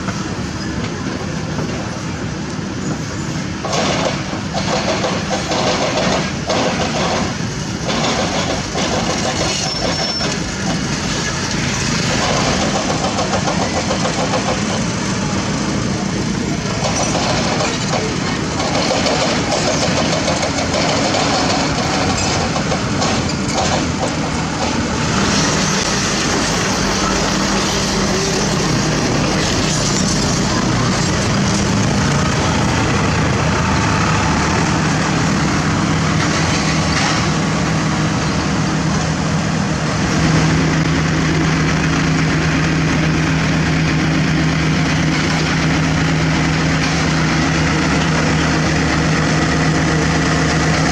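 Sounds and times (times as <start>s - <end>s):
diesel machinery engine drone: 0.0s - 50.9s.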